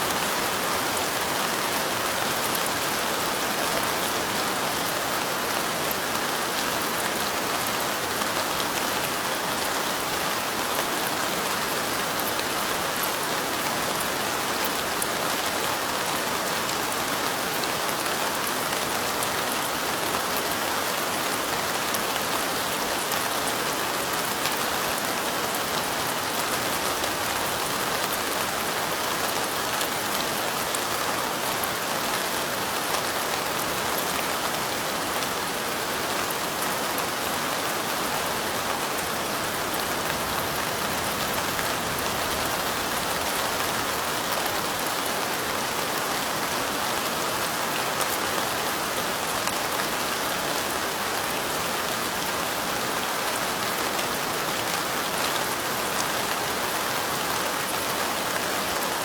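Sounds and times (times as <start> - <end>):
light rain pattering: 0.0 - 59.0.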